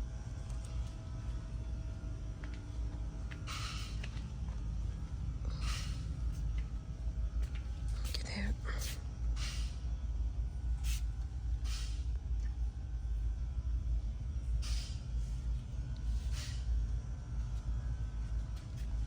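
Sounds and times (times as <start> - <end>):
low rumble of shop background: 0.0 - 19.0.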